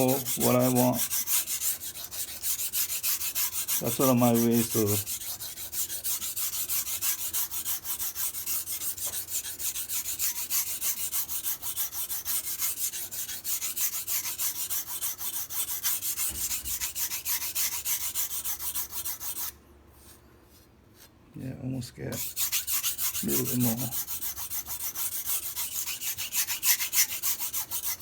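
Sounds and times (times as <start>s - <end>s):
knife scraping on whetstone: 0.0s - 19.6s, 22.2s - 28.0s.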